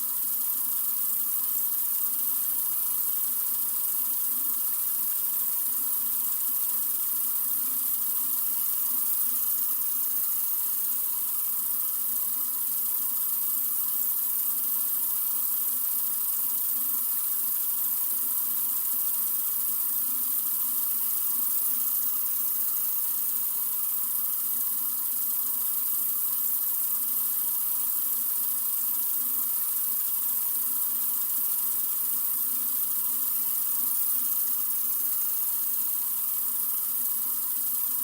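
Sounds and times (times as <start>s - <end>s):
sink faucet running: 0.2s - 38.0s.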